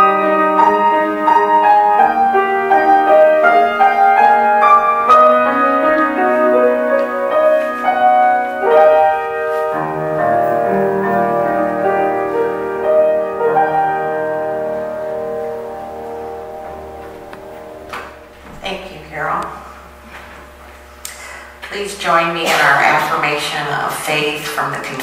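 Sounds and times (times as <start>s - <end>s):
grand piano playing slow piece: 0.0s - 20.6s.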